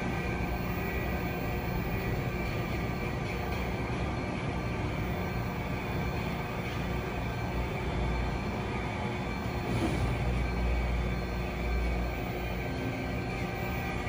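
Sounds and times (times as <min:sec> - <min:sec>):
faint high whine: 0:00.0 - 0:14.0
machine hum with low rumble: 0:00.0 - 0:14.0.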